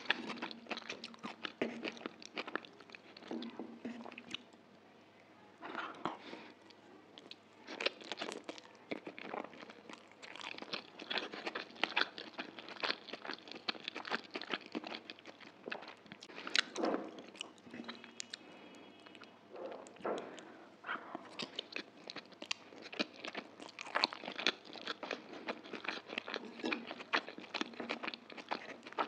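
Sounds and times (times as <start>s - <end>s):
close chewing of noodles: 0.0s - 4.4s, 7.2s - 29.0s.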